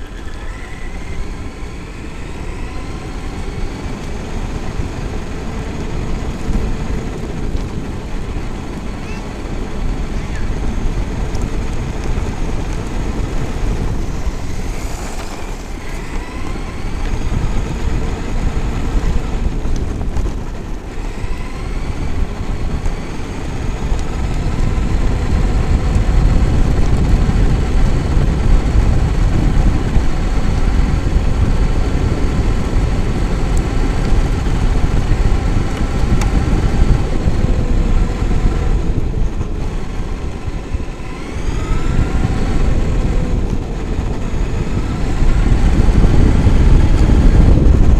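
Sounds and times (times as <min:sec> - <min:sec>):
electric motor whining: 0:00.0 - 0:47.9
wind noise: 0:00.0 - 0:47.9.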